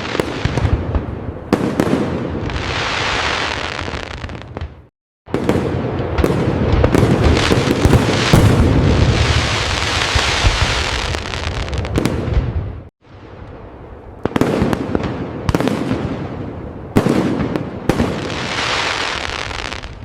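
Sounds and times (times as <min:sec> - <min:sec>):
fireworks crackling and banging: 0:00.0 - 0:13.6, 0:14.2 - 0:20.0.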